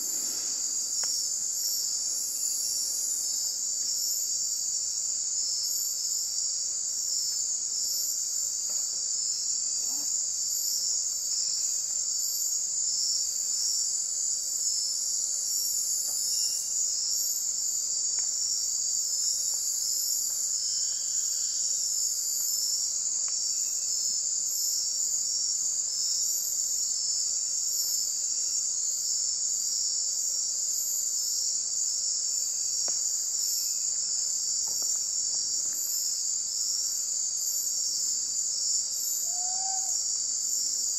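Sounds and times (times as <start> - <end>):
night insects shrilling: 0.0 - 40.9
rapidly pulsing insect chirp: 0.0 - 40.9.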